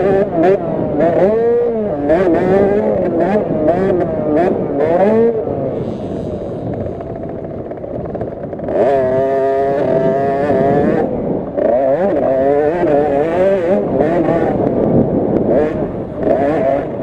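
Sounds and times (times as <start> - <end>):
two-stroke minibike engine revving: 0.0 - 17.0.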